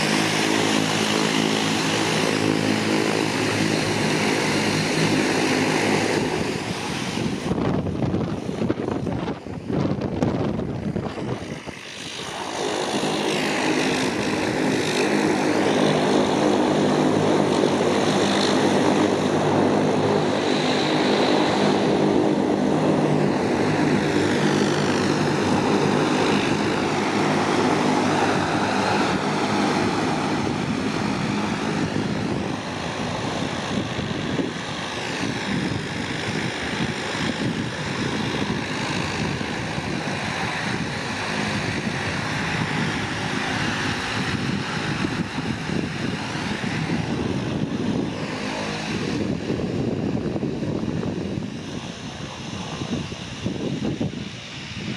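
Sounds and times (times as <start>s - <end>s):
turboprop engines droning: 0.0s - 54.9s.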